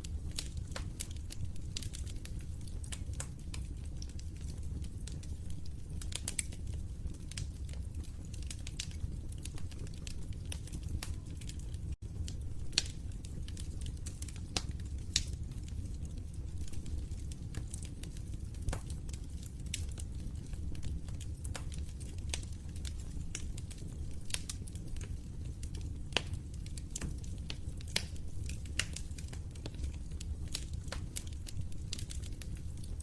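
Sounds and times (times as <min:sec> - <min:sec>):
fire crackling in a fireplace: 0:00.0 - 0:33.0.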